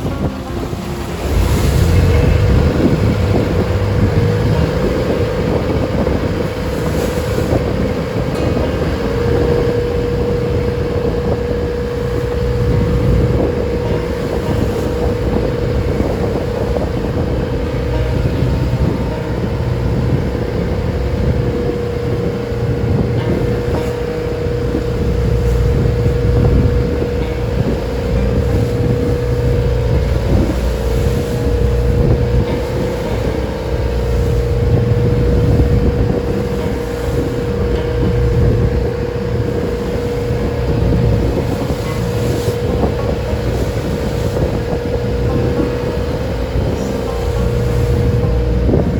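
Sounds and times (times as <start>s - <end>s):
boat engine running: 0.0s - 48.9s
wind buffeting microphone: 0.0s - 48.9s.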